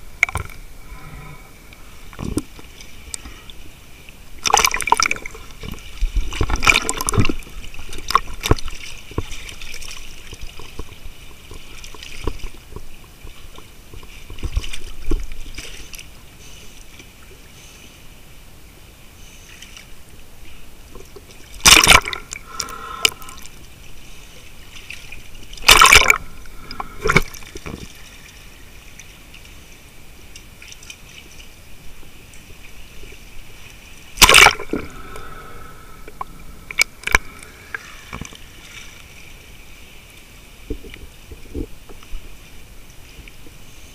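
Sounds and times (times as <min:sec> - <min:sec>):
water sloshing and bubbling: 0:00.0 - 0:43.9.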